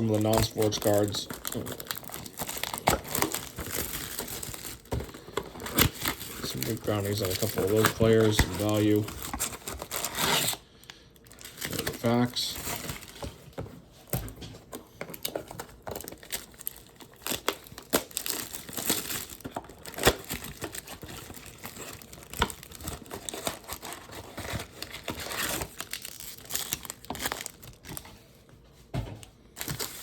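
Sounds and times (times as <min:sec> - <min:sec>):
plastic and foil wrapping crinkling: 0:00.0 - 0:28.3, 0:29.5 - 0:30.0.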